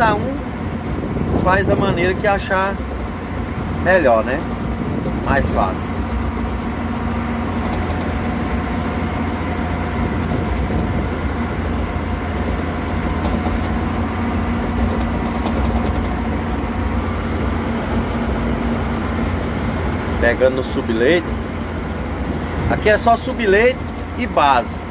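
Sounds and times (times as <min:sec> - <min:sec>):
diesel engine running under load: 0:00.0 - 0:24.9.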